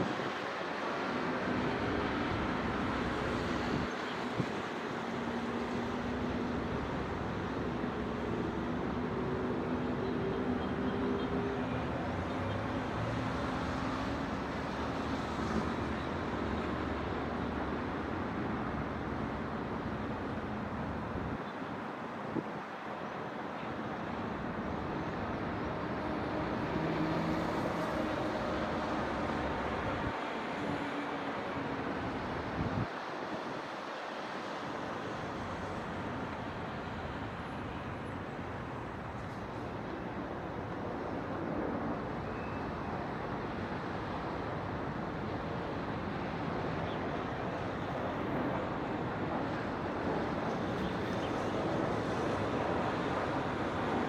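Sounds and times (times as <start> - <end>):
city road traffic: 0.0 - 54.0.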